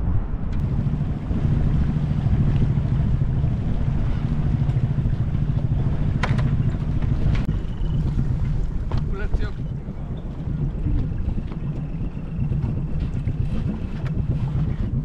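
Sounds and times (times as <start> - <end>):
wind on microphone: 0.0 - 15.0
boat engine humming: 0.1 - 15.0.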